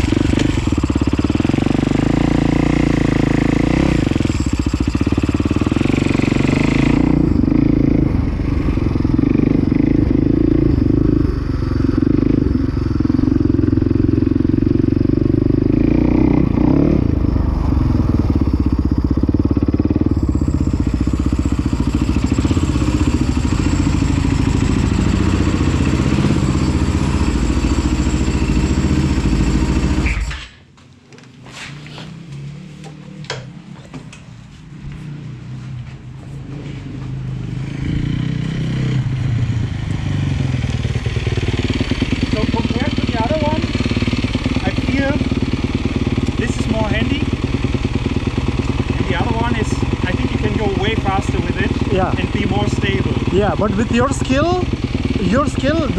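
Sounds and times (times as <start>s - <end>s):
dirt bike engine running: 0.0s - 30.6s, 31.9s - 55.9s.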